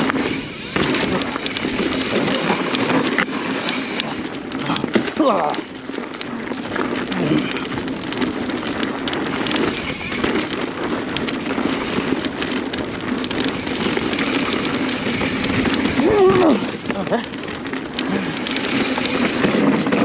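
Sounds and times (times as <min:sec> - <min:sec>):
bike clicking and rattling: 0:00.0 - 0:20.0
bike tyres on dirt trail: 0:00.0 - 0:20.0.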